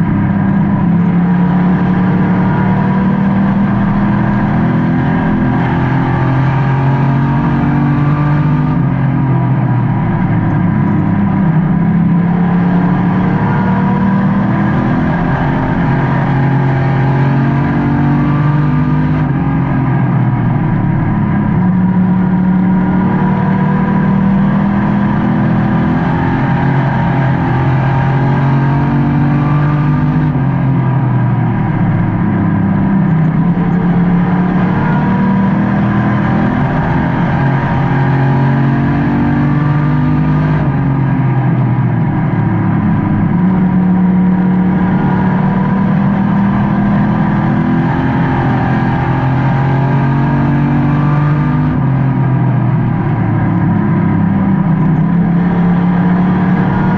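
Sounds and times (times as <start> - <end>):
race car engine: 0.0 - 56.9.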